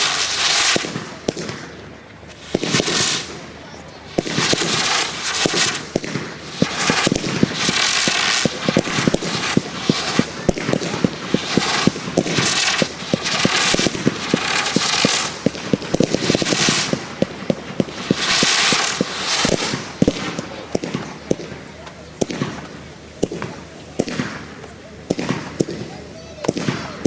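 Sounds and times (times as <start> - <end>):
fireworks bangs: 0.0 - 27.0
fireworks hissing crackle: 0.0 - 27.0.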